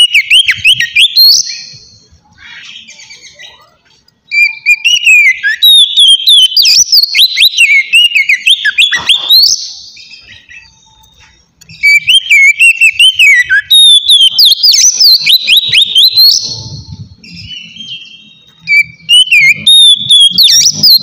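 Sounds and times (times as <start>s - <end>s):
bird singing whistled phrases: 0.0s - 3.6s, 4.3s - 21.0s.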